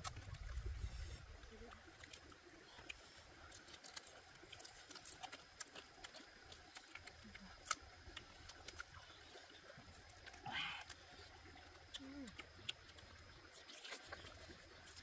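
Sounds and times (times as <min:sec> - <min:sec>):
faint small clicks and ticks: 0:00.0 - 0:15.0.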